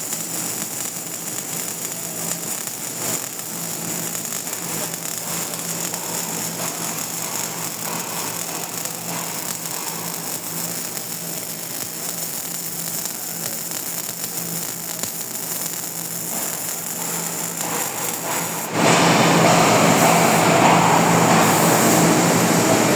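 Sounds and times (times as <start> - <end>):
welding arc crackling: 0.0 - 22.9.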